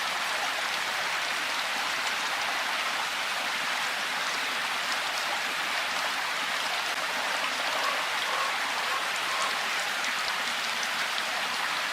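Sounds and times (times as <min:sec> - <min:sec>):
steady rainfall: 0:00.0 - 0:11.9.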